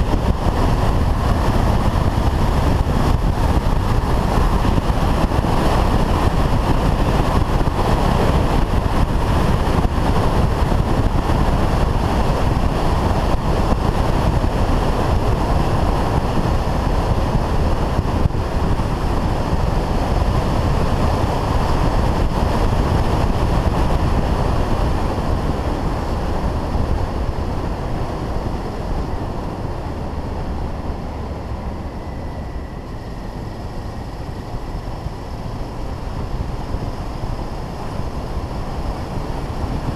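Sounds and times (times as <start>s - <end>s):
motorcycle running: 0.0s - 39.9s
wind rushing over microphone: 0.0s - 39.9s.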